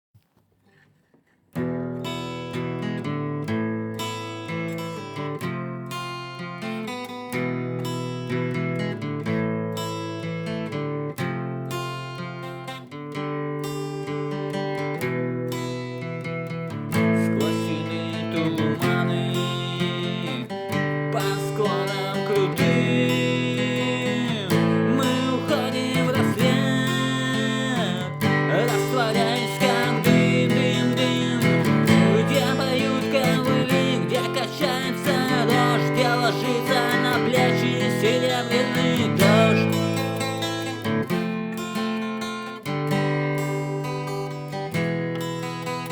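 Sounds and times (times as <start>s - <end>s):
picked acoustic guitar: 0.5s - 45.9s.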